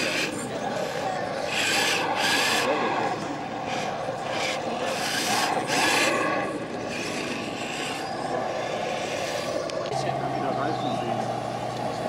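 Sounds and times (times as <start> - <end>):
tyres scraping: 0.0 - 10.0
electric motor and gears whirring: 0.0 - 12.0.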